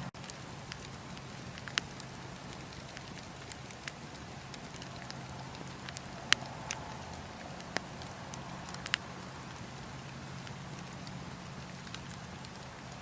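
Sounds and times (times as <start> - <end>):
bonfire crackling and popping: 0.1 - 13.0.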